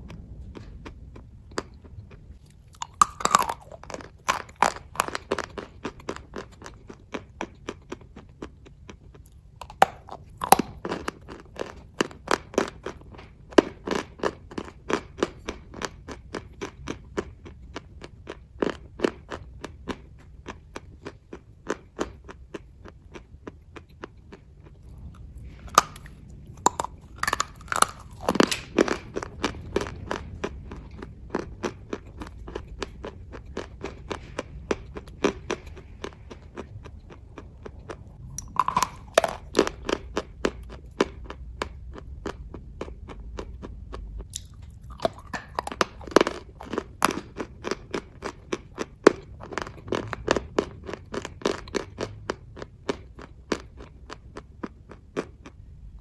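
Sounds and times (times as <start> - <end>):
moist chewing clicks: 0.0 - 55.6.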